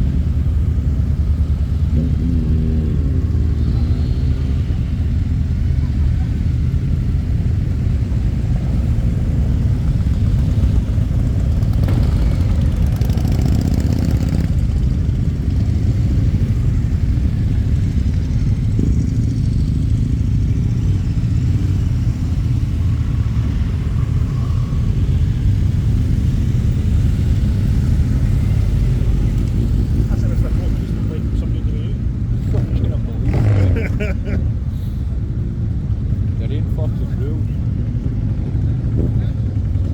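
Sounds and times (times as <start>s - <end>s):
motorcycle engines idling: 0.0s - 39.9s.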